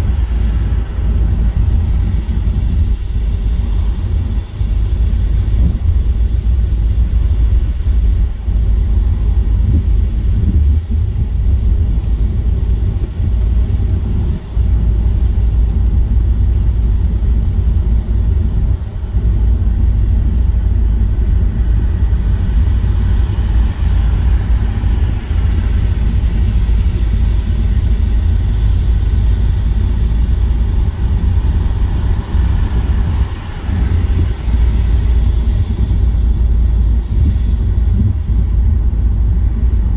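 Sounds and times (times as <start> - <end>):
tyres and engine rumble: 0.0 - 39.9
wet road spray hiss: 0.0 - 39.9.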